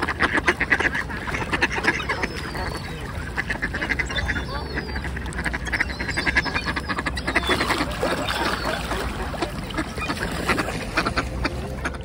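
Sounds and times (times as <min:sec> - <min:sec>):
ducks quacking: 0:00.0 - 0:12.0
gull calls: 0:00.6 - 0:12.0.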